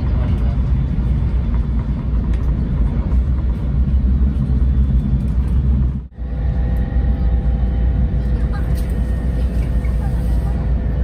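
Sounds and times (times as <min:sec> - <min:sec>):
train rumble inside passenger car: 0:00.0 - 0:11.0.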